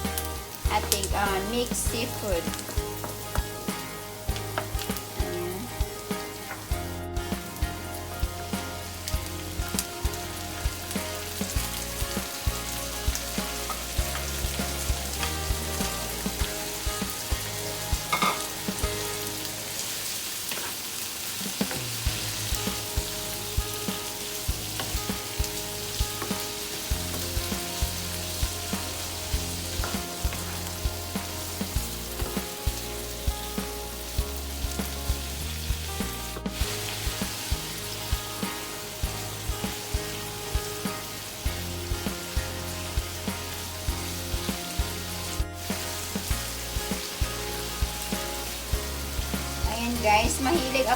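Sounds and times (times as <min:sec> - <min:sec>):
seafood sizzling in a pan: 0:00.0 - 0:50.9.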